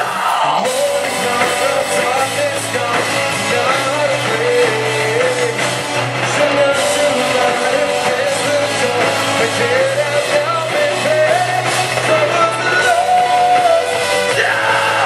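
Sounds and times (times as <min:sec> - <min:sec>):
bass guitar: 0:00.0 - 0:15.0
electric guitar: 0:00.0 - 0:15.0
man singing: 0:00.0 - 0:15.0.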